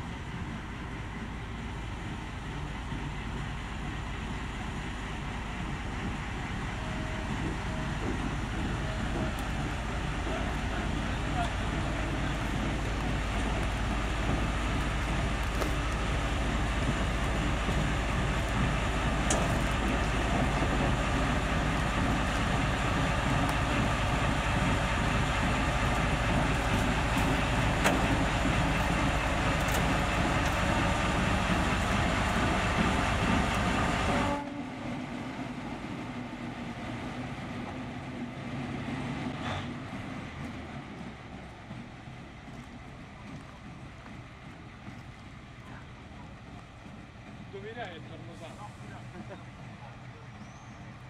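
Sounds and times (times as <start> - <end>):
diesel locomotive engine running: 0.0 - 51.0.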